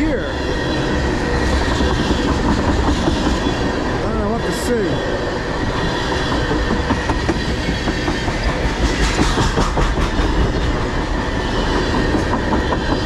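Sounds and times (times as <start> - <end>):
continuous train rumble: 0.0 - 13.0
steel wheels clanking over rail joints: 0.0 - 13.0.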